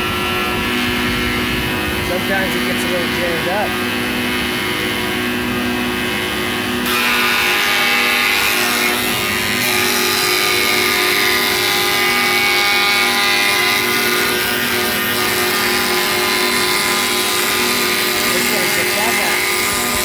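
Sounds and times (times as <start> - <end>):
diesel generator: 0.0 - 20.0
planer running: 0.0 - 20.0.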